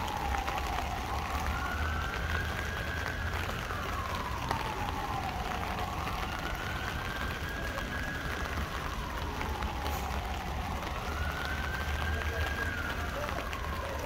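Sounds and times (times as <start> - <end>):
rain on an umbrella: 0.0 - 14.0
siren wailing: 0.0 - 14.0.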